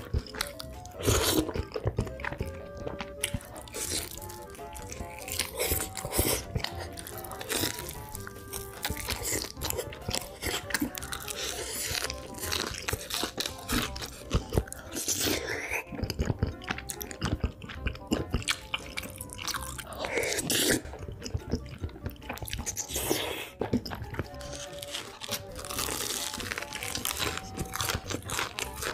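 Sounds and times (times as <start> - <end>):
background music: 0.0 - 28.9
crunching and chewing food: 0.0 - 28.9.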